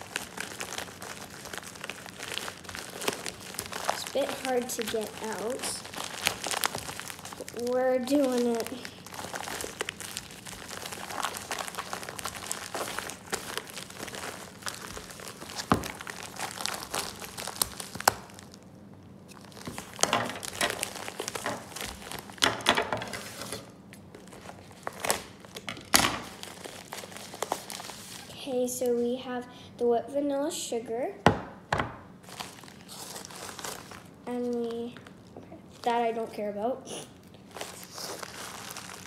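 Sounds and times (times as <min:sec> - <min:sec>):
paper wrapping crinkling and tearing: 0:00.0 - 0:18.7, 0:19.3 - 0:28.3, 0:32.2 - 0:39.0.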